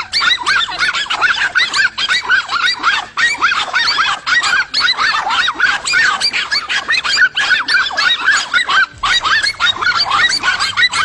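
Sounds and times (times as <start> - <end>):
dogs barking and yapping: 0.0 - 11.0.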